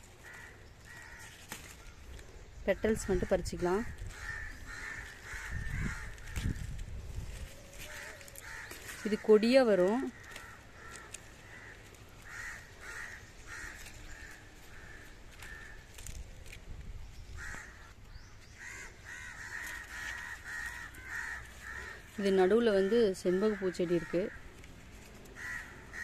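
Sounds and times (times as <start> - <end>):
birds calling: 0.0 - 26.0
leaves rustling and snapping: 0.0 - 26.0.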